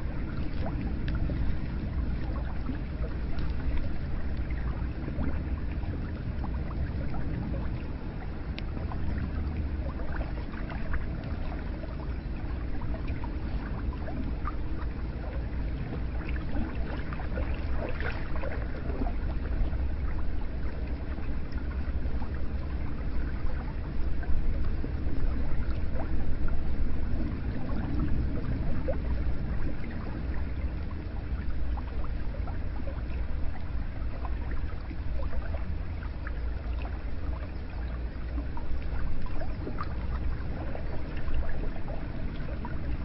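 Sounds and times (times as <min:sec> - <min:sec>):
water drips and splashes: 0:00.0 - 0:43.0
water flowing steadily: 0:00.0 - 0:43.0.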